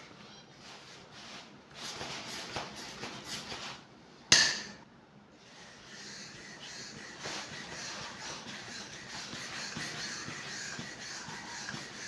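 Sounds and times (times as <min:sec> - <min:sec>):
manual air pump rushing air: 0:00.7 - 0:03.8, 0:05.4 - 0:12.0.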